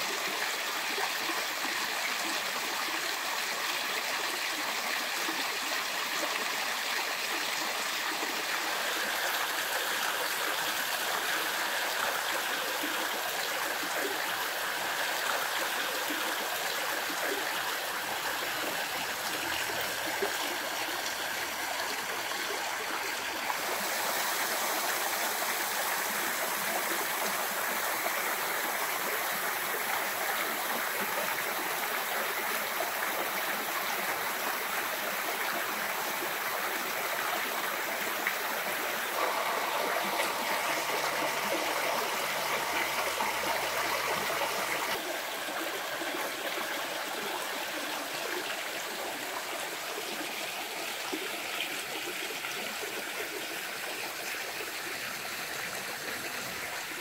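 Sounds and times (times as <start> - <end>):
water rushing and splashing: 4.6 - 55.8.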